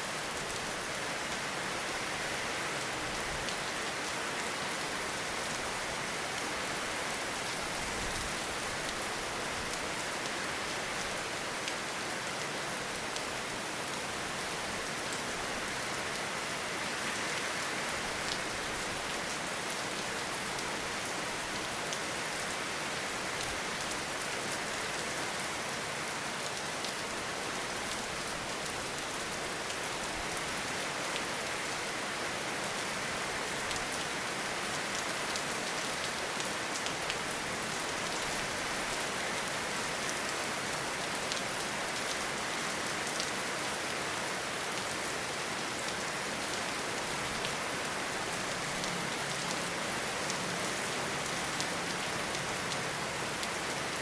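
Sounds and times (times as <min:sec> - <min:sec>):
rain falling in a forest: 0:00.0 - 0:54.0.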